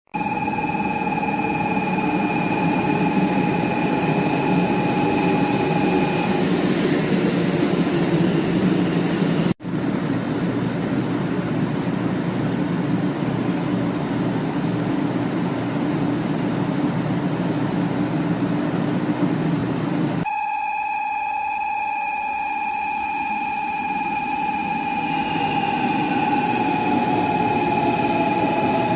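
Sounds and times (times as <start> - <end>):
train running at speed: 0.2 - 20.2, 23.8 - 28.9
steady high whine: 0.2 - 28.9.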